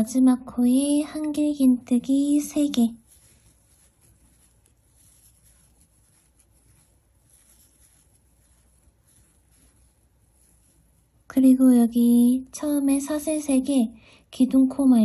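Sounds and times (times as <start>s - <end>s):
yarn rustling with crochet hook: 0.1s - 15.0s.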